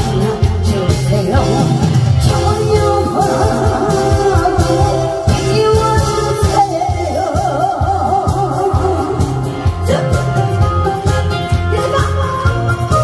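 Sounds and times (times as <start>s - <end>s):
band music with drum beat: 0.0s - 13.0s
person singing with vibrato: 0.0s - 13.0s.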